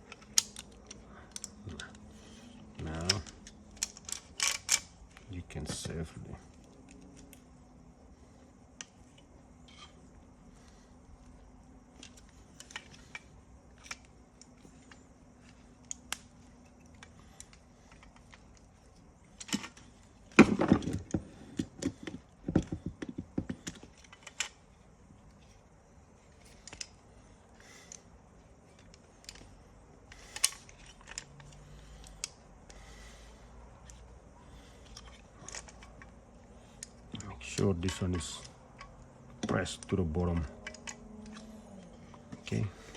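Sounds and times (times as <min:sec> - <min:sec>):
small parts clicking and rattling: 0:00.0 - 0:42.9.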